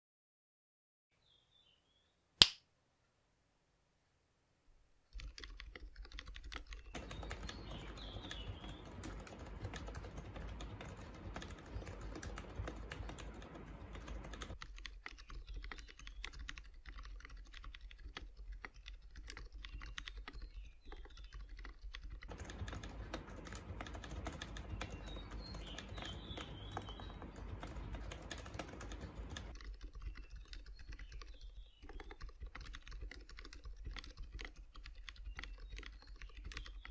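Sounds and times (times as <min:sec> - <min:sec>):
mechanical keyboard typing: 0:05.1 - 0:36.9.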